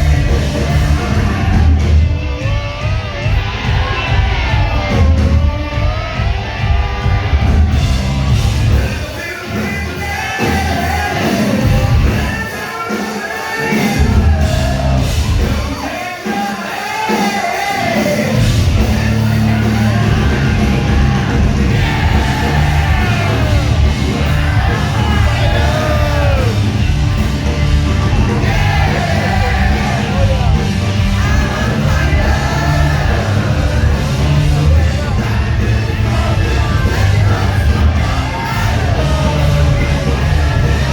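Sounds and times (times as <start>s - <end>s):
lead singer singing: 0.0s - 40.9s
live rock band playing: 0.0s - 40.9s.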